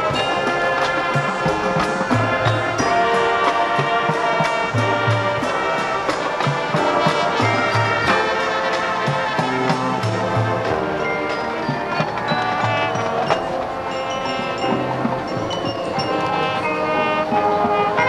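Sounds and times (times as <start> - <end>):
marching band brass chords: 0.0 - 18.0
percussion hits: 0.0 - 18.0.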